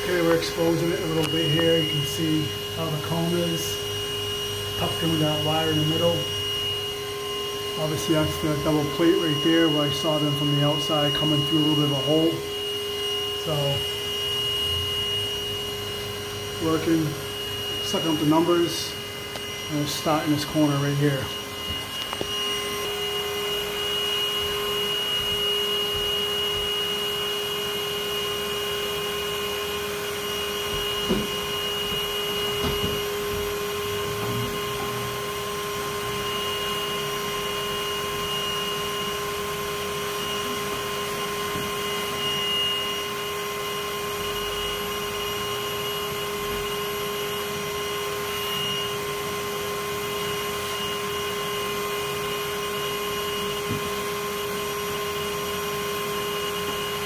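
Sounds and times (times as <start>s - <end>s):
vacuum whining: 0.0s - 57.0s.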